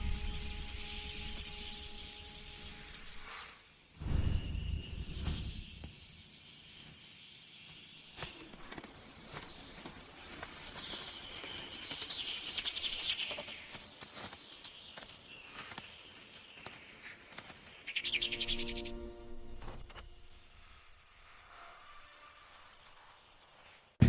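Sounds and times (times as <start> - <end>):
outdoor nature ambience hiss: 0.0 - 24.0.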